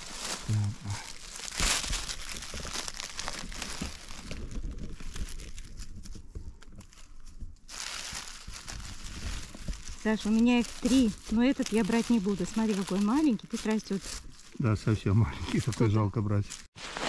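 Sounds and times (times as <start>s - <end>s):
leaves and twigs crunching underfoot: 0.0s - 17.0s.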